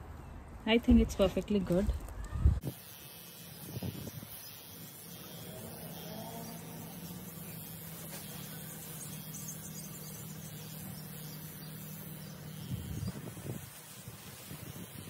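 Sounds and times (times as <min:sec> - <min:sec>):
electric hair trimmer buzzing: 0:02.6 - 0:15.0.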